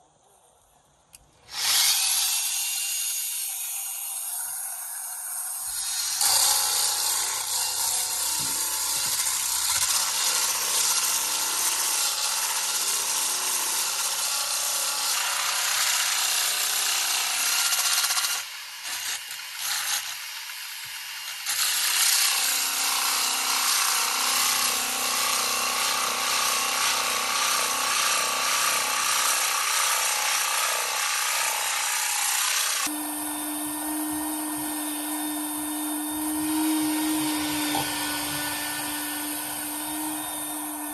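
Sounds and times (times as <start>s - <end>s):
power sander on wood: 1.5s - 40.9s.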